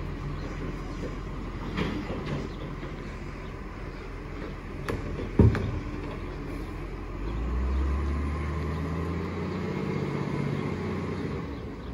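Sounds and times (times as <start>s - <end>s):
truck diesel engine drone: 0.0s - 11.9s.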